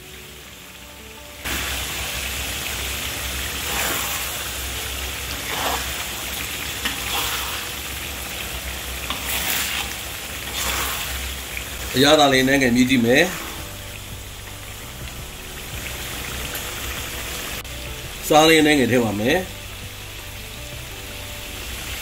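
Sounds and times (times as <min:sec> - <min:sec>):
curry bubbling and sizzling: 0:00.0 - 0:22.0.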